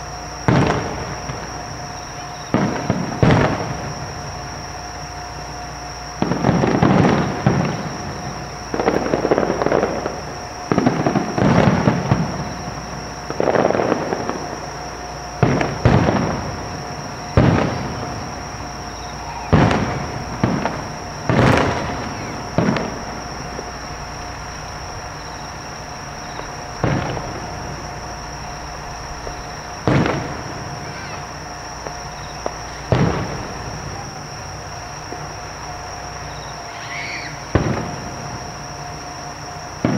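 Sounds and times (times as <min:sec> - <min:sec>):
fireworks booming: 0:00.0 - 0:39.9.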